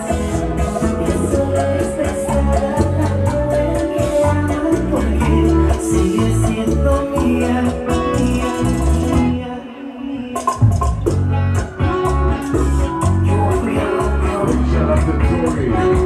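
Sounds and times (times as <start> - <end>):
bass and percussion: 0.0 - 9.4, 10.4 - 16.0
plucked guitar: 0.0 - 16.0.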